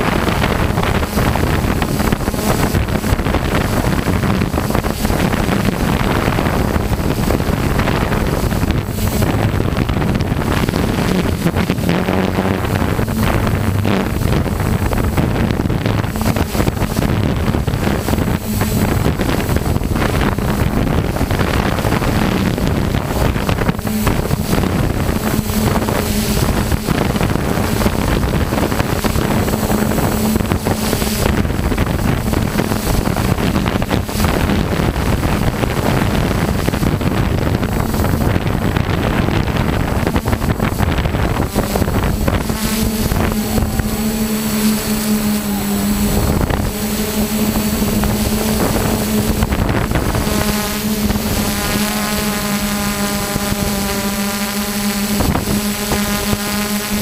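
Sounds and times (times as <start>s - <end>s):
drone motors humming: 0.0s - 57.0s
wind noise on microphone: 0.0s - 57.0s.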